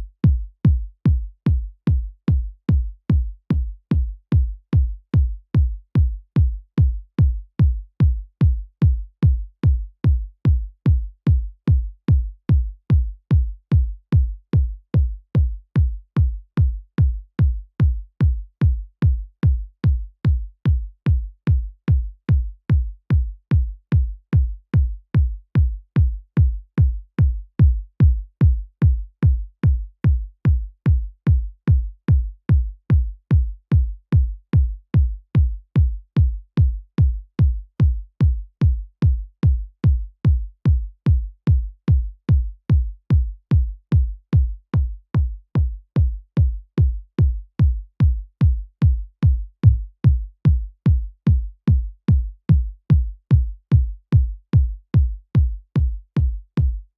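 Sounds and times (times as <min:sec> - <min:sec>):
electronic kick drum: 0:00.0 - 0:56.9.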